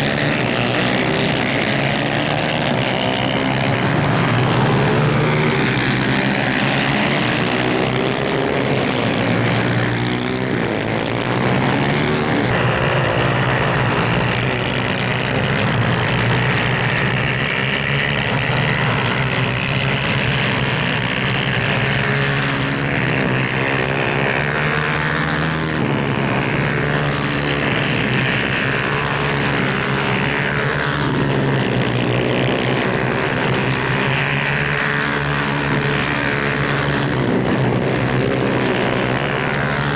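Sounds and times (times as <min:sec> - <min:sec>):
kart engines revving: 0:00.0 - 0:39.9.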